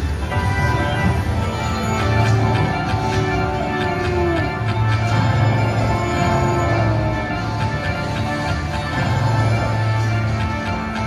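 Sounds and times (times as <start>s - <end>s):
slot machine bonus music: 0.0s - 11.0s.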